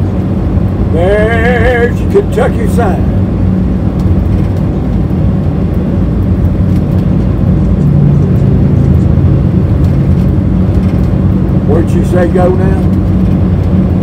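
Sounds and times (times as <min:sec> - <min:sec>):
vehicle engine and tyre drone: 0:00.0 - 0:14.0.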